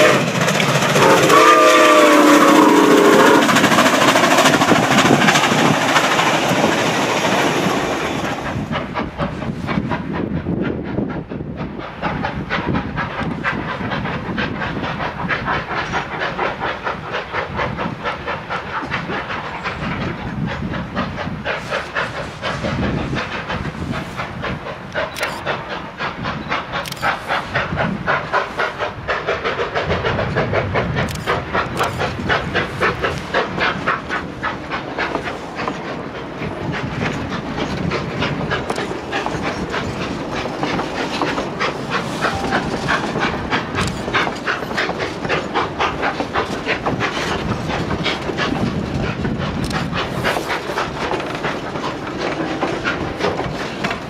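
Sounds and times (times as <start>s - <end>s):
hiss: 0.0s - 54.0s.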